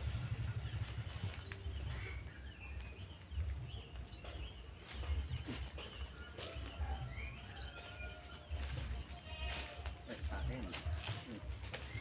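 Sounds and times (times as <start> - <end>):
small birds chirping and whistling: 0.0 - 12.0
steady low rumble: 0.0 - 12.0.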